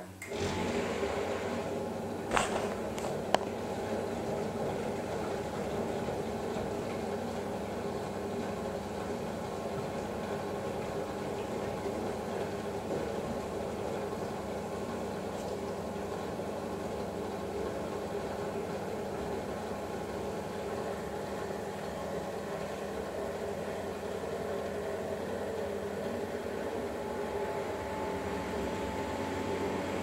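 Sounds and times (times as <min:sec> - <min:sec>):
washing machine motor hum: 0:00.0 - 0:30.0
water and laundry tumbling: 0:00.3 - 0:30.0.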